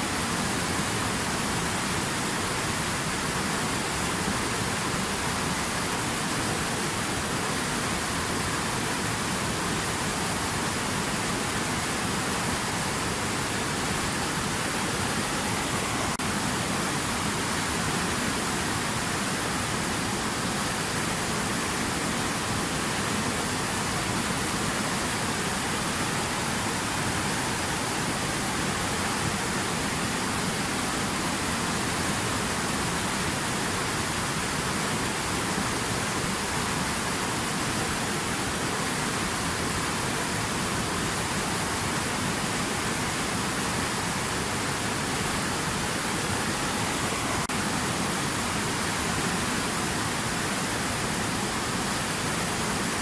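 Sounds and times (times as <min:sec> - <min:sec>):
water rushing over rapids: 0:00.0 - 0:53.0.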